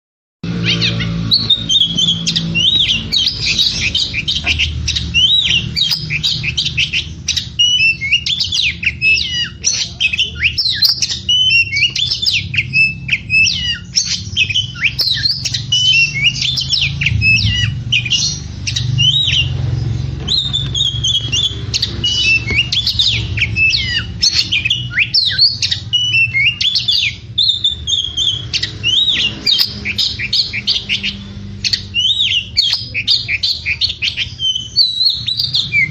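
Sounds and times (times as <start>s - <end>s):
bird singing whistles and squawks: 0.5s - 35.9s.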